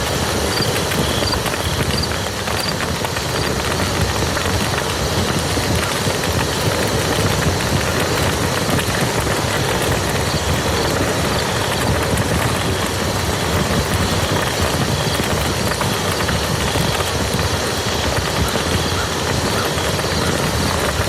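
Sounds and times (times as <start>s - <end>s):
faint raindrop hits: 0.0s - 21.0s
rain hissing on a field: 0.0s - 21.0s.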